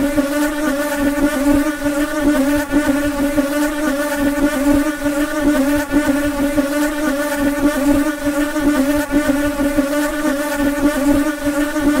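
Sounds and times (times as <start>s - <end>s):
flies buzzing: 0.0s - 12.0s.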